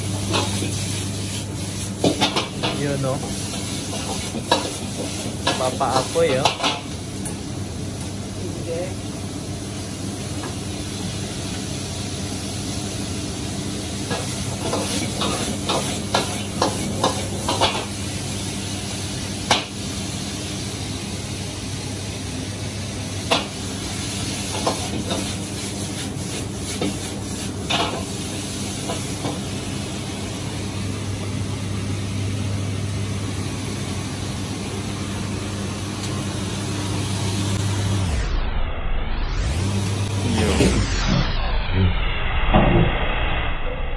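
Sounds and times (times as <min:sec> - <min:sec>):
food sizzling in a wok: 0:00.0 - 0:38.1
wok burner and extraction hum: 0:00.0 - 0:43.9.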